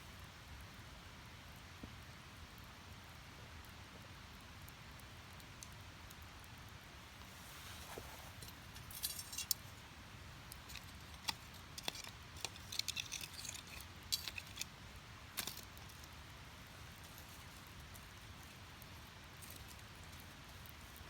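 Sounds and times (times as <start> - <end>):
faint steady hiss: 0.0 - 21.0
firewood crackling and popping: 1.5 - 21.0.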